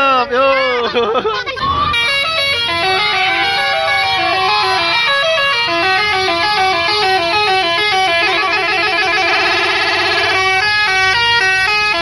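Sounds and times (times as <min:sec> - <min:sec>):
musical air horn melody: 0:02.0 - 0:12.0.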